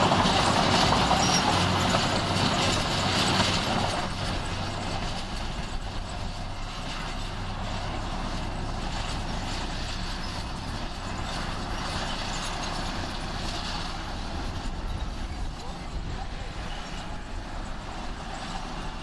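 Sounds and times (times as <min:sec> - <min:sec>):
diesel earthmoving machine running: 0:00.0 - 0:19.0.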